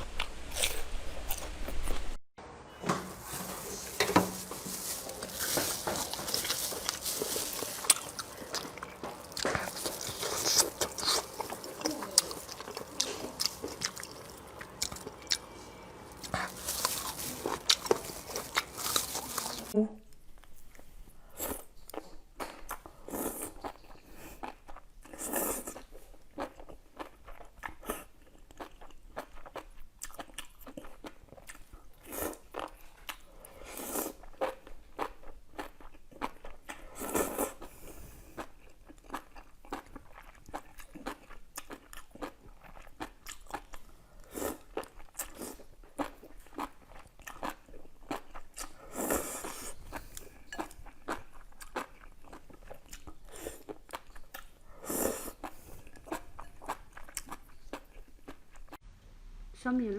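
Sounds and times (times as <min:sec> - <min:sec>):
person chewing crunchy food: 0:00.1 - 0:02.0, 0:04.4 - 0:58.8.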